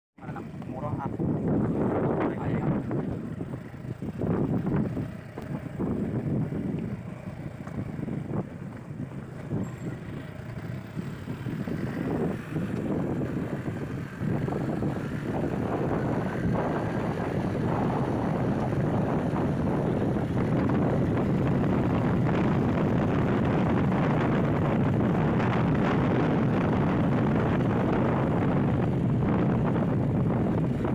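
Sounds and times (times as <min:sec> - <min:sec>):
motorcycle engine accelerating: 0:00.2 - 0:30.9
wind on microphone: 0:00.2 - 0:30.9.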